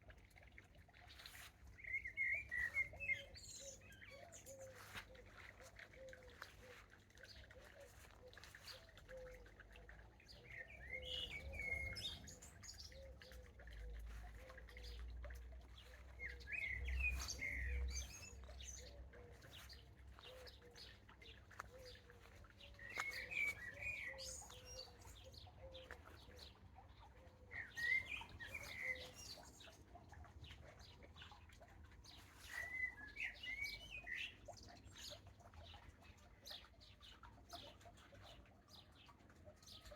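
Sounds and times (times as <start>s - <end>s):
songbird singing chirpy phrases: 0.1s - 39.9s.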